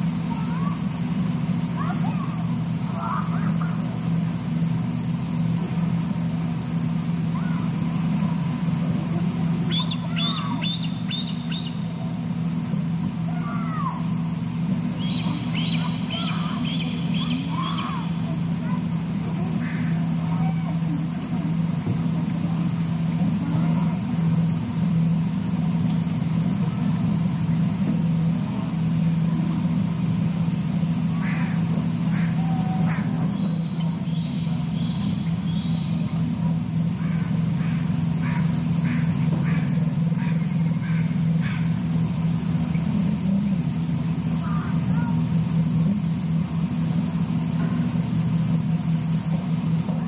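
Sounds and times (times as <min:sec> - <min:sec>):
faint high calls: 0:00.0 - 0:50.0
low mechanical hum: 0:00.0 - 0:50.0.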